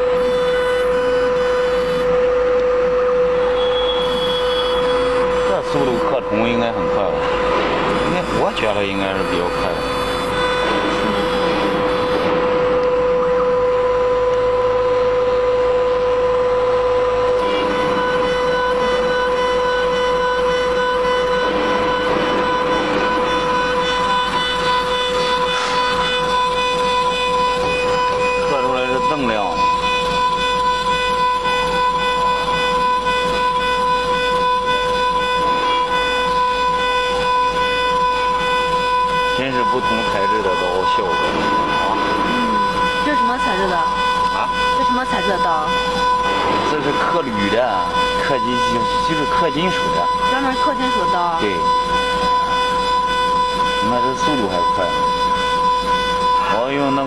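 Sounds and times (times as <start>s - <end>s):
router spindle whining: 0.0s - 57.0s.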